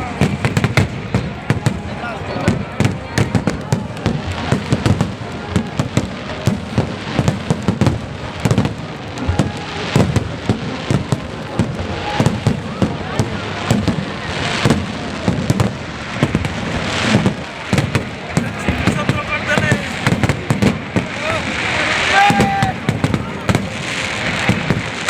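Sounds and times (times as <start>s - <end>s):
faint voices: 0.0s - 25.0s
fireworks bangs and crackles: 0.0s - 25.0s.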